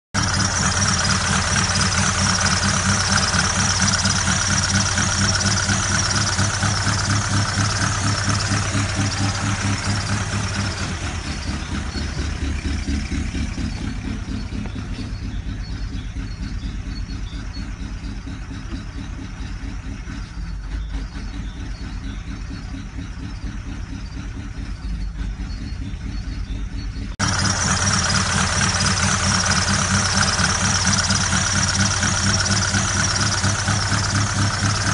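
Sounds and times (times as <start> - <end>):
engine idling with knocking clatter: 0.1 - 34.9.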